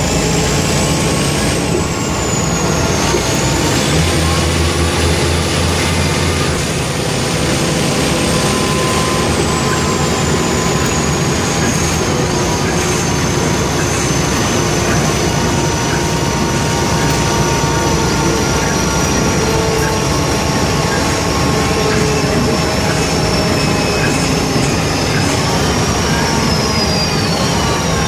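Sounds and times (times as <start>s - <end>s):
bus diesel engine drone: 0.0s - 28.0s
high whine falling in pitch: 0.0s - 28.0s.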